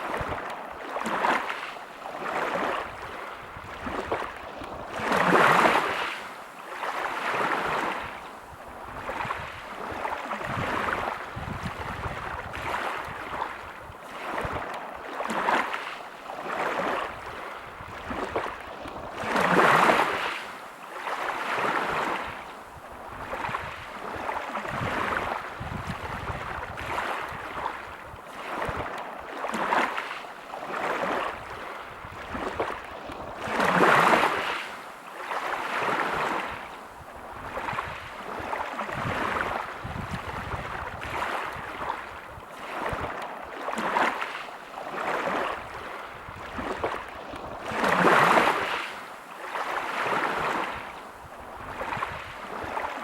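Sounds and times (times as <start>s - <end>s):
waves breaking on pebble beach: 0.0s - 22.4s, 23.2s - 36.7s, 37.4s - 53.0s.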